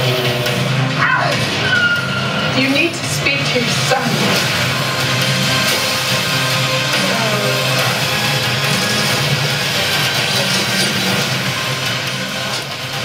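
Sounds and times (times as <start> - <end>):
loud movie trailer music: 0.0 - 13.0.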